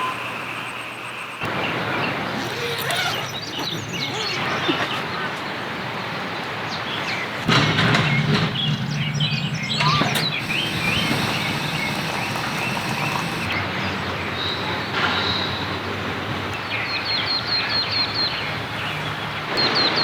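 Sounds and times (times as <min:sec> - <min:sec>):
birds chirping: 0:00.0 - 0:19.8
outdoor noise: 0:00.0 - 0:20.0.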